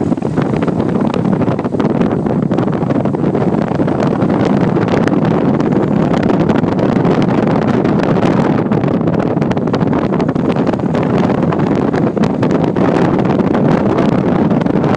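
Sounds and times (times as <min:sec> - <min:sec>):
car road noise: 0:00.0 - 0:14.9
wind buffeting microphone: 0:00.0 - 0:14.9.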